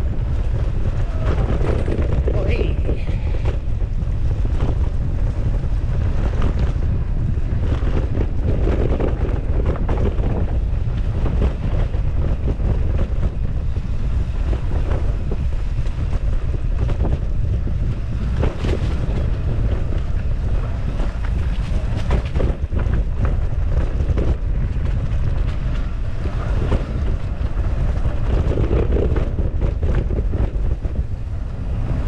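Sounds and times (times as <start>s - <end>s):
wind buffeting microphone: 0.0s - 32.0s
bike clicks and rattles: 2.9s - 32.0s.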